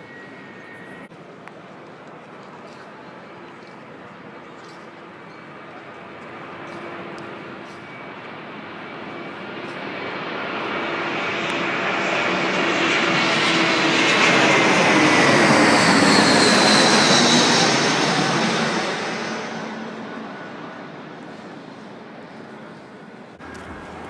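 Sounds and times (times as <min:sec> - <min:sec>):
airplane flying overhead: 0:00.0 - 0:24.0.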